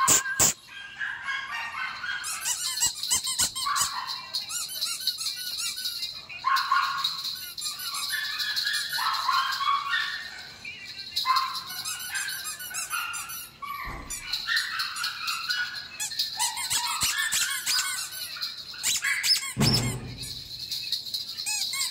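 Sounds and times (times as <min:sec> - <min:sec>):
squeaky dog toys squeaking: 0:00.0 - 0:21.9.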